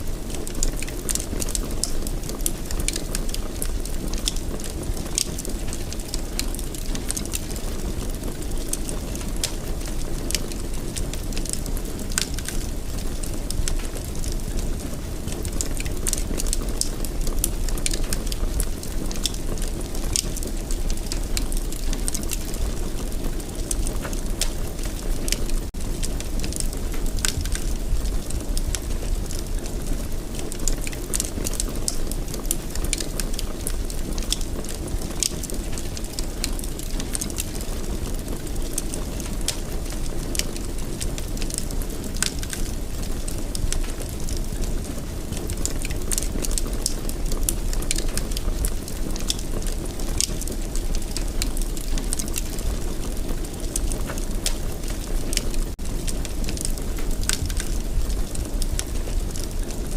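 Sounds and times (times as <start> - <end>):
fire crackles and pops: 0.0 - 59.9
fire rumbling in fireplace: 0.0 - 59.9.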